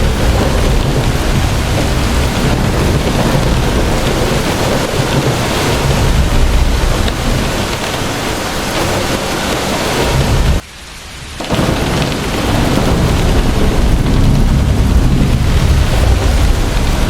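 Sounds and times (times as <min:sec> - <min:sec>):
deep churning rumble: 0:00.0 - 0:10.6, 0:11.5 - 0:17.0
gusting wind: 0:00.0 - 0:17.0
heavy rain: 0:00.0 - 0:17.0.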